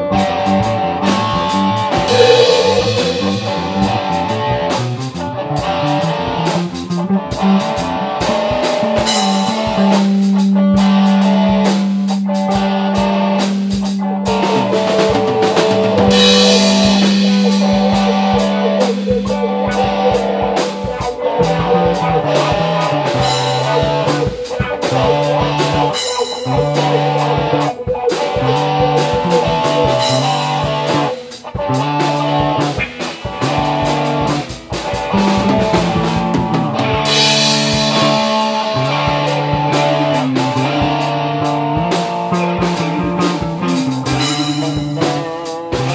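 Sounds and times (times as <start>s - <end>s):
bass guitar: 0.0s - 45.9s
drum kit: 0.0s - 45.9s
electric guitars: 0.0s - 45.9s.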